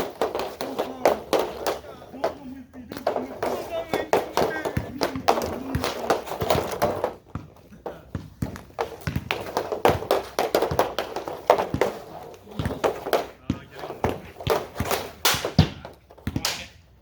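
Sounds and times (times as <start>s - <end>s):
hockey stick and puck clacking: 0.0s - 16.9s.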